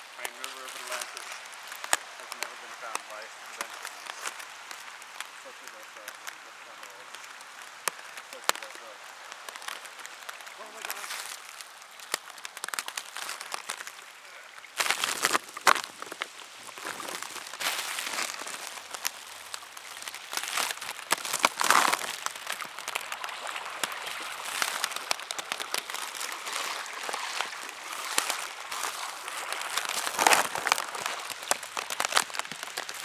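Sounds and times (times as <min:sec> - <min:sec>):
rain pattering: 0:00.0 - 0:33.0
raindrops ticking near microphone: 0:00.0 - 0:33.0.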